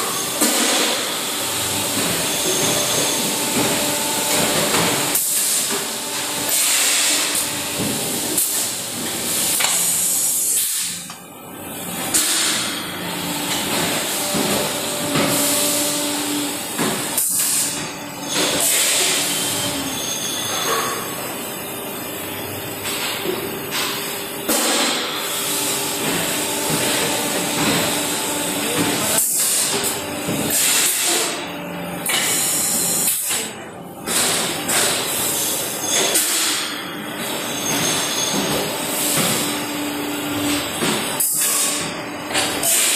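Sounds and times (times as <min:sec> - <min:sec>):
machine humming: 0:00.0 - 0:23.0, 0:25.2 - 0:35.4, 0:37.2 - 0:42.7.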